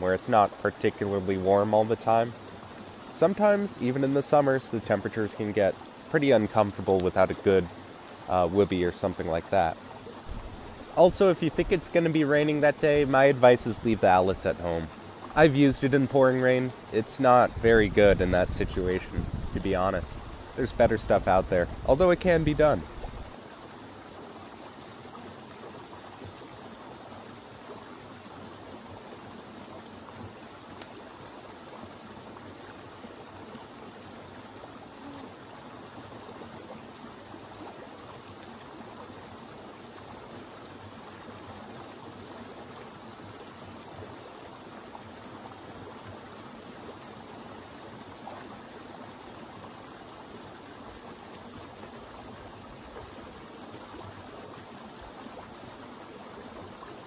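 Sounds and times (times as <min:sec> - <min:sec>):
stream water splashing: 0:00.0 - 0:57.0.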